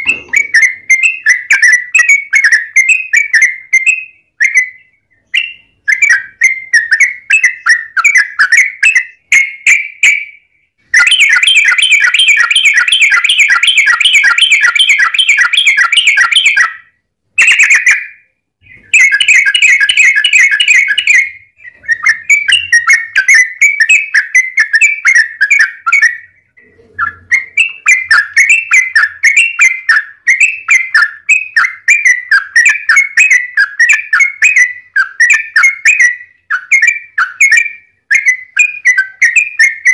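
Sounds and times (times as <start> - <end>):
bird song of bubbly notes: 0.0 - 39.9.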